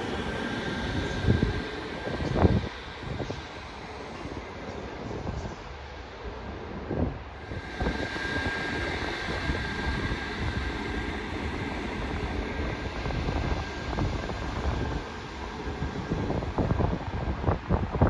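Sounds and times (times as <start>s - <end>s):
electric train rumbling: 0.0s - 18.0s
high whine: 0.0s - 18.0s.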